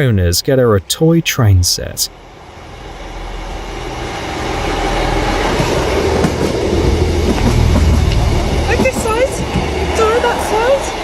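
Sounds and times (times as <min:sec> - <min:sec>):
train rumbling and rushing: 0:00.0 - 0:11.0.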